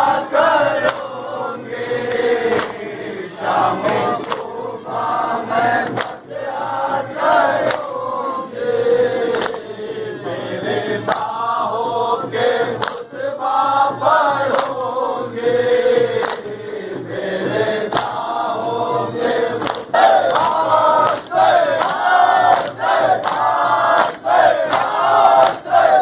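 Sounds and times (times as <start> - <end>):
men chanting together: 0.0 - 26.0
rhythmic chest beating: 0.0 - 26.0.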